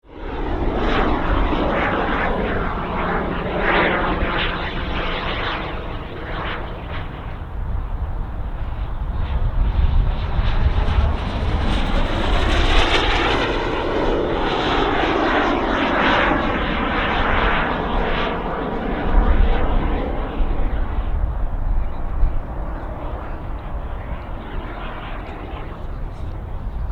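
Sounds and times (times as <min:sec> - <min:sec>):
model jet turbine flying past: 0:00.1 - 0:26.9.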